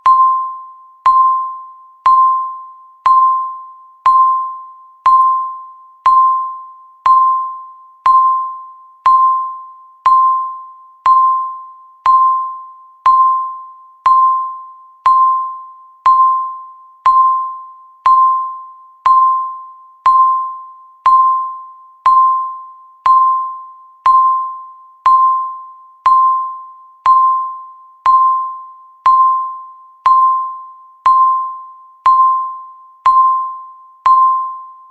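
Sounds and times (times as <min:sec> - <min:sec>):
timer beeping: 0:00.0 - 0:34.9.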